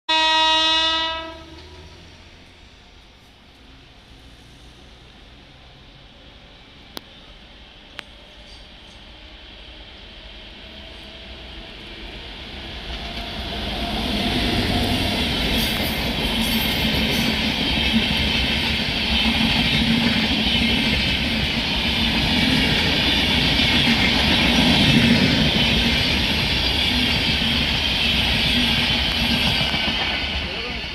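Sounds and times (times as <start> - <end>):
train passing at speed: 0.1 - 30.9.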